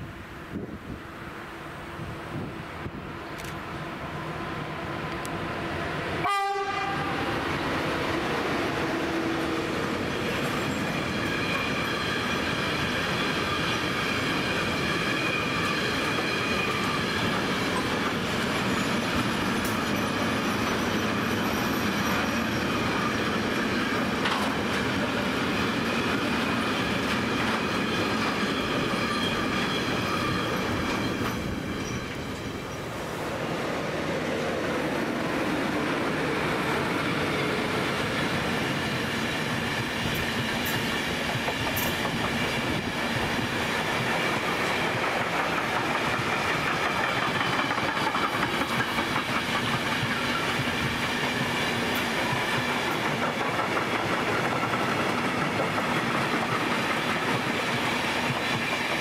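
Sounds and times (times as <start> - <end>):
train wheels running over rails: 7.2 - 59.0.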